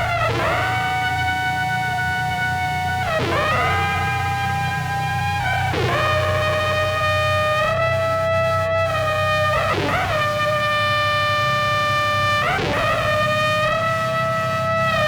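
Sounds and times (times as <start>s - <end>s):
low steady drone: 0.0s - 15.0s
synthesizer sustained tones: 0.0s - 15.0s.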